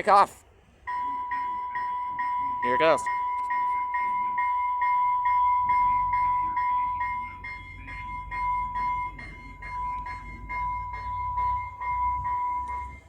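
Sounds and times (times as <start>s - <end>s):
train rumble: 0.0s - 13.0s
steady ringing tone: 0.8s - 13.0s
train bell ringing: 0.9s - 13.0s.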